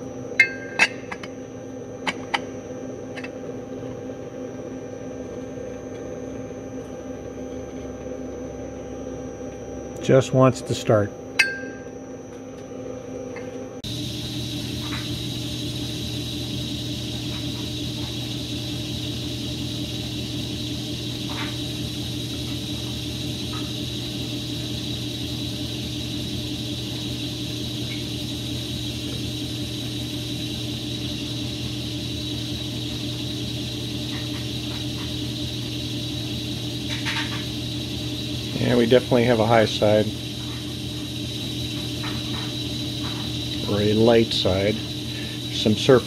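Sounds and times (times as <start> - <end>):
mechanical hum: 0.0 - 46.0.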